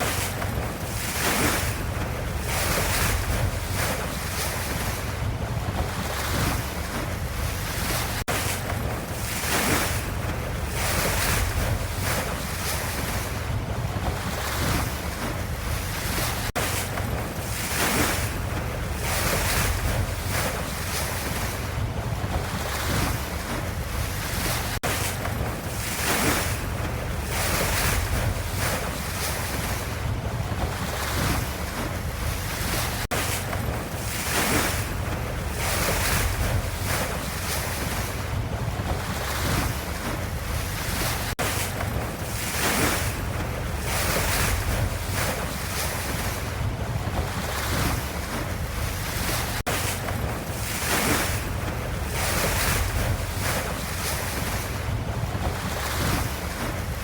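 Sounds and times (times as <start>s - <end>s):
ocean waves washing: 0.0s - 57.0s.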